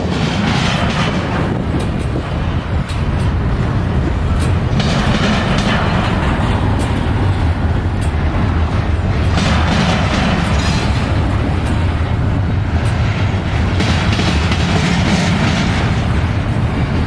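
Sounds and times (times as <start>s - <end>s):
freight train rumbling: 0.0s - 17.0s
train wheels clicking and clanking: 0.0s - 17.0s.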